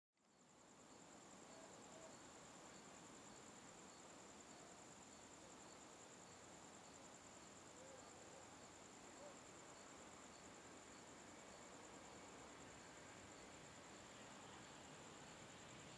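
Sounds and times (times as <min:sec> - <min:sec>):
crickets chirping: 0:00.2 - 0:15.9.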